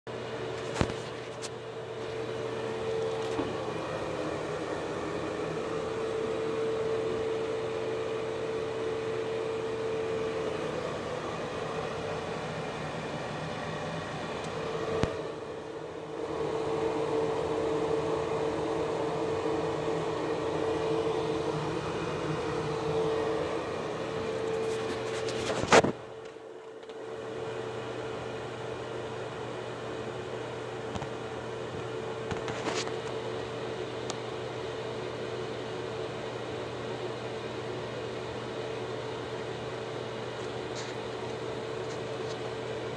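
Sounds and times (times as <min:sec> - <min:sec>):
exhaust fan running: 0:00.1 - 0:42.9.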